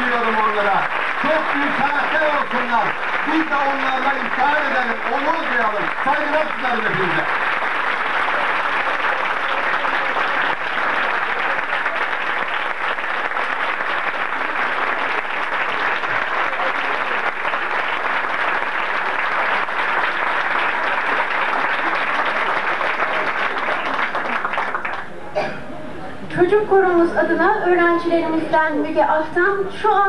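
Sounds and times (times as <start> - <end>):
audience applauding: 0.0 - 25.3.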